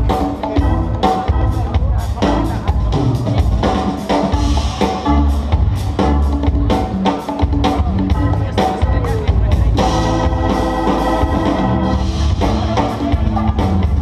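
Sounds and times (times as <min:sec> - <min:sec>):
breakbeat music with heavy drums: 0:00.0 - 0:14.0.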